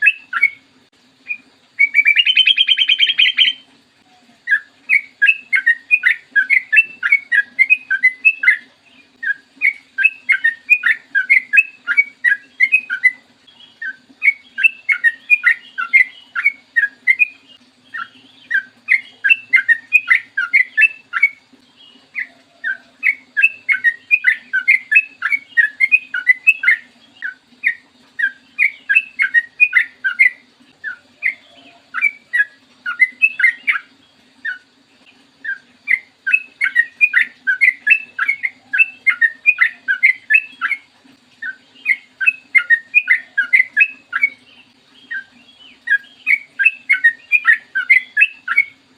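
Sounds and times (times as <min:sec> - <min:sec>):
bird singing bubbly chattering notes: 0:00.0 - 0:48.9.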